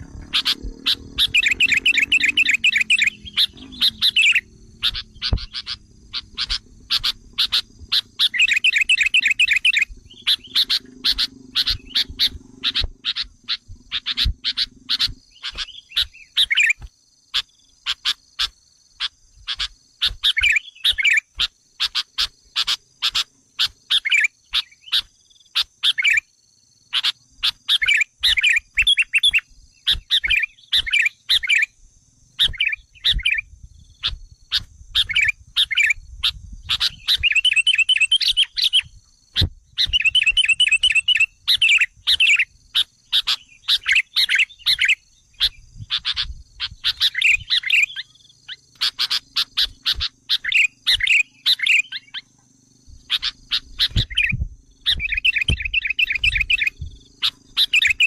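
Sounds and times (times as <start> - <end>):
bird chattering calls: 0.0 - 26.3, 26.9 - 31.8, 32.4 - 52.4, 53.0 - 58.0.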